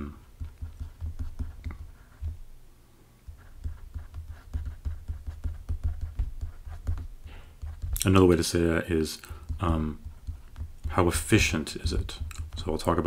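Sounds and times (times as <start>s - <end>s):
stylus tapping on tablet screen: 0.3s - 2.4s, 3.3s - 8.2s, 9.2s - 13.0s.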